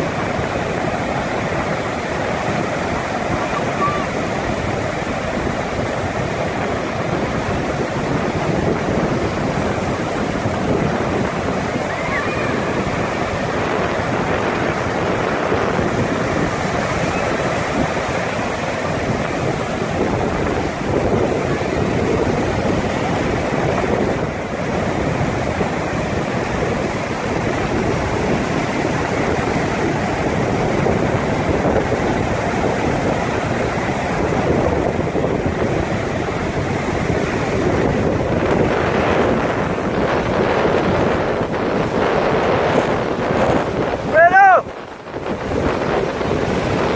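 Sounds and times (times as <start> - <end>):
ocean surf breaking: 0.0 - 46.9
wind buffeting microphone: 0.0 - 46.9.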